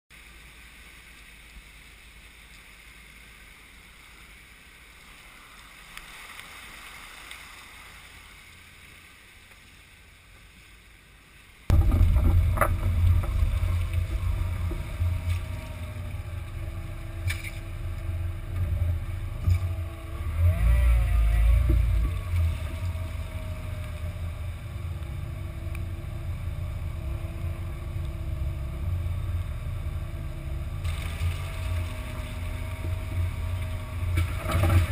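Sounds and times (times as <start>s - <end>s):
faint steady hiss: 0.1s - 34.9s
car engines rumbling: 0.2s - 34.9s.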